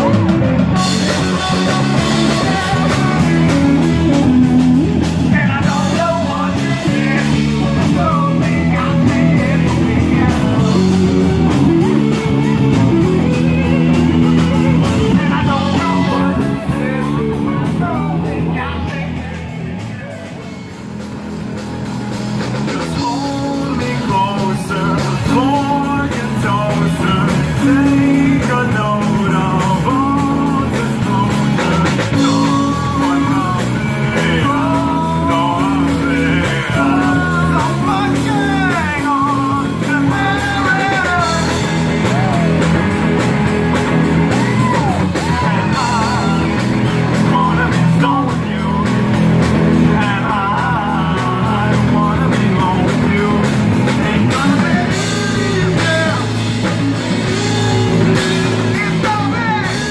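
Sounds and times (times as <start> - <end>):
drum beat: 0.0 - 17.4, 19.0 - 59.9
person singing: 0.0 - 21.1, 22.5 - 59.9
electric guitar: 0.0 - 59.9.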